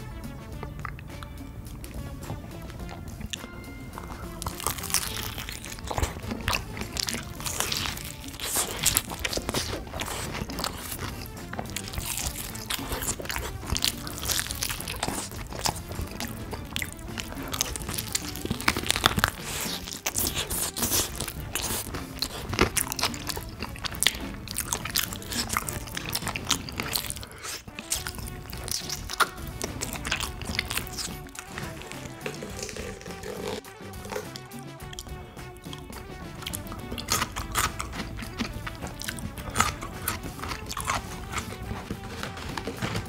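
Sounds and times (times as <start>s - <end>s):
background music: 0.0s - 43.0s
crunching bites and chewing: 0.0s - 43.0s.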